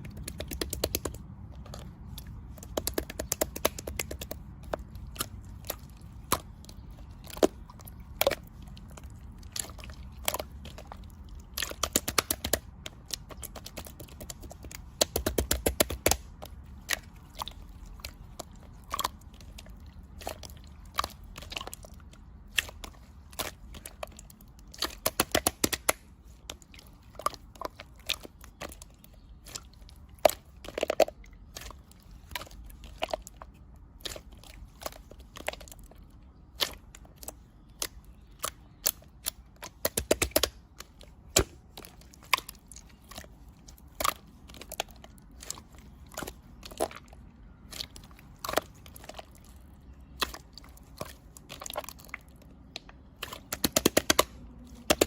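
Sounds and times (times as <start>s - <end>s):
crisp clicks and crunches: 0.0s - 55.0s.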